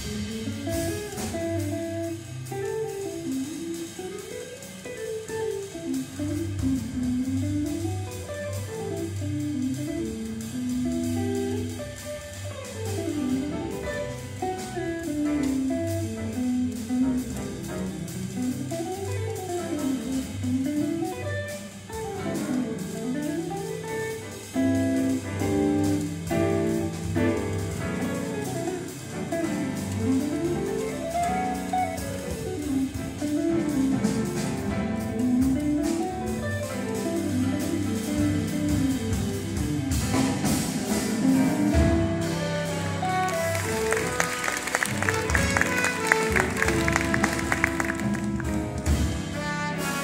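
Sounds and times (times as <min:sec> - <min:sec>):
drums: 0:00.0 - 0:50.0
piano chords: 0:00.0 - 0:50.0
walking upright bass: 0:00.0 - 0:50.0.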